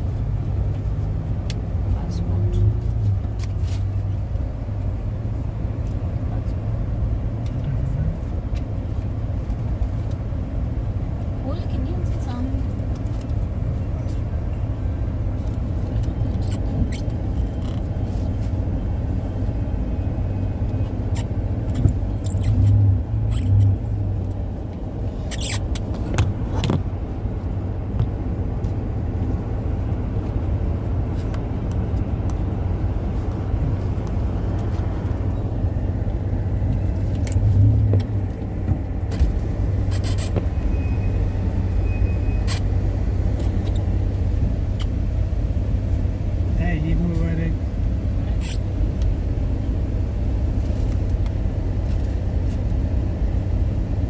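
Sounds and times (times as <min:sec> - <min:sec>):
car rumble from inside cabin: 0:00.0 - 0:54.0.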